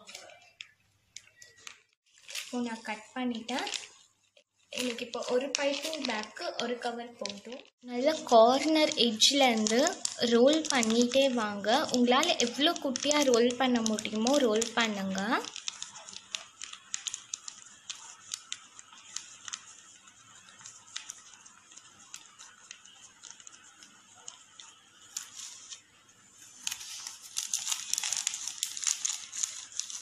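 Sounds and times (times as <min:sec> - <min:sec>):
plastic sheet crinkling: 0:00.0 - 0:30.0.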